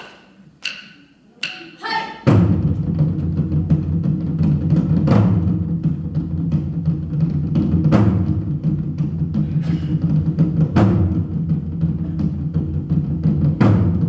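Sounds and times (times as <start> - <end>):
accented drum strikes: 0.6 - 14.0.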